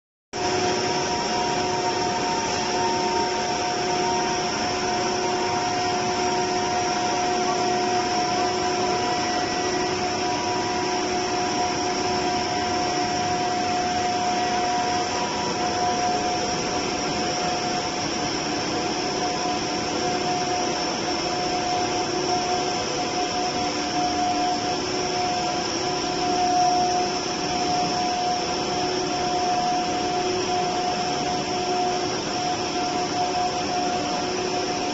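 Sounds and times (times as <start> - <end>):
machine whir with whining tones: 0.4 - 34.9.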